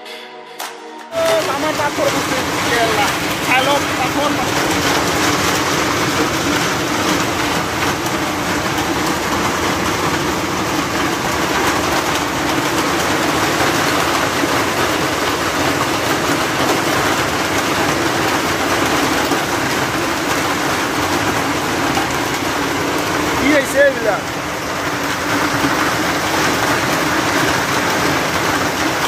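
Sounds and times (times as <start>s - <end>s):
hail clattering on hard surfaces: 1.2s - 29.0s
rain: 1.2s - 29.0s.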